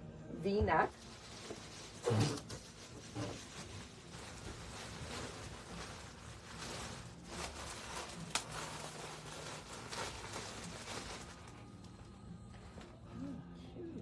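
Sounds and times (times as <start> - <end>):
rustling clothing and packaging: 0.5 - 13.4.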